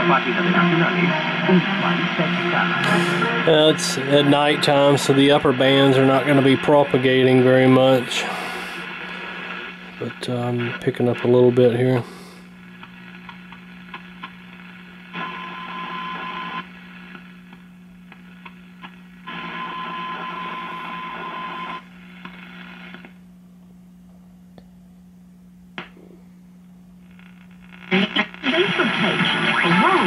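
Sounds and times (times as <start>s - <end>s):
radio static and hiss: 0.0s - 23.2s, 27.0s - 30.0s
low steady hum: 0.0s - 30.0s.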